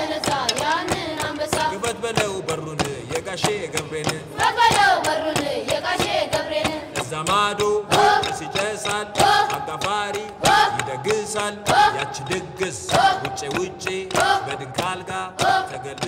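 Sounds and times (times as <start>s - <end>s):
chant-like singing: 0.0s - 16.0s
sharp percussion strikes: 0.0s - 16.0s.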